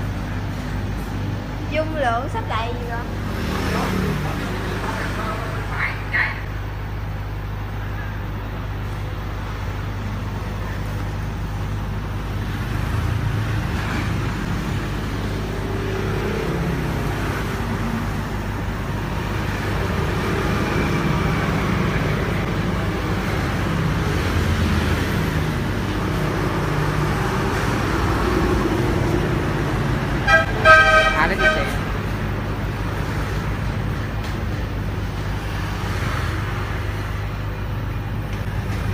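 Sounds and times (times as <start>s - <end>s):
road traffic rumble: 0.0s - 38.9s.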